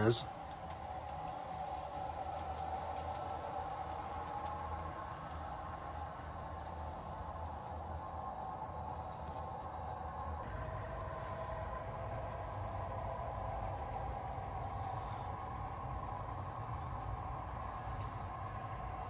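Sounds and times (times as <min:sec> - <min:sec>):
mid-pitched hum: 0:00.0 - 0:19.0
model trains rumbling: 0:00.0 - 0:19.0.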